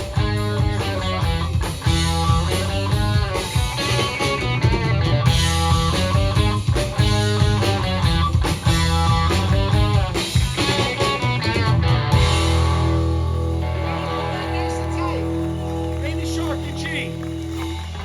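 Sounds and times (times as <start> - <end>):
electric guitar: 0.0 - 18.0
live rock band playing: 0.0 - 18.0.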